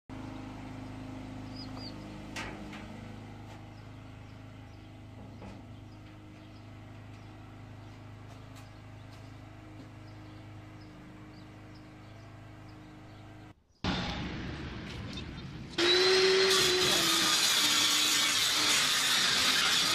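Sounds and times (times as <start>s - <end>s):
low mechanical hum: 0.1s - 19.9s.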